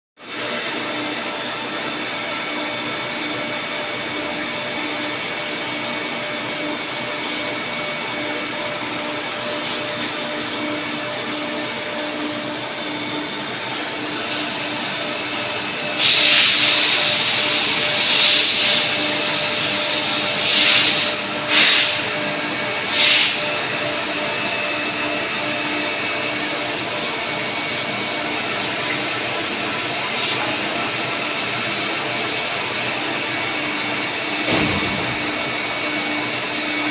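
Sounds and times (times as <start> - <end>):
drilling machine whir and hiss: 0.3 - 36.9.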